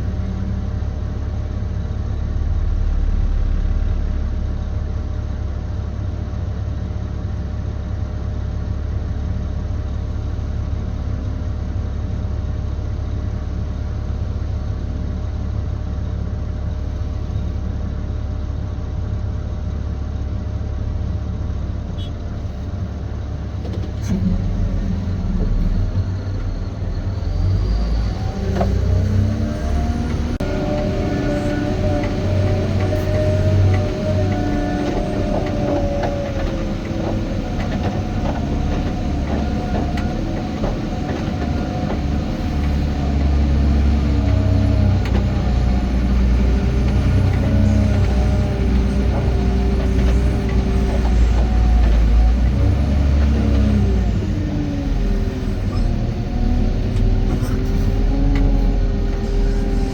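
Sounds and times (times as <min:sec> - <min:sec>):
diesel truck engine rumble: 0:00.0 - 0:59.9.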